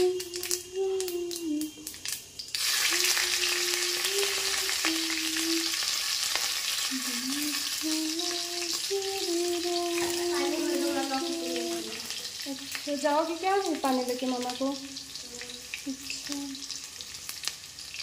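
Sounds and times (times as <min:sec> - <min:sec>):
chillies sizzling in hot oil: 0:00.0 - 0:18.0.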